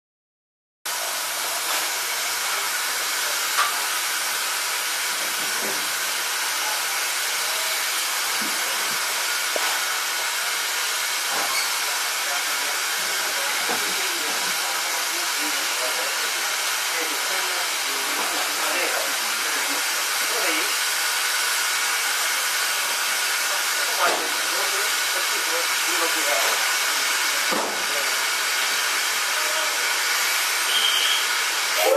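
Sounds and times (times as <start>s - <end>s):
steam locomotive hissing: 0.9s - 31.9s.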